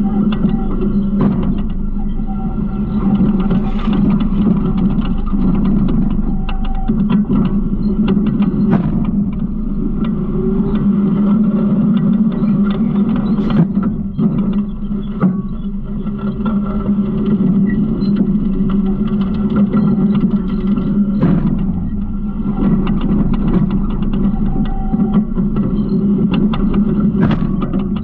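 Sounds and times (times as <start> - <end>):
clanks and rattles: 0.0 - 28.0
garbage truck engine drone: 0.0 - 28.0.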